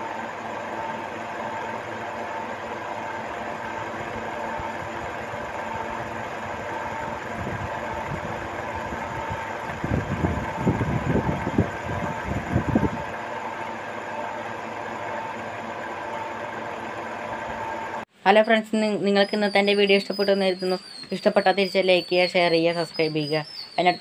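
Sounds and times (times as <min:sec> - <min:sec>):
small motor whining: 0:00.0 - 0:18.0, 0:19.2 - 0:24.0.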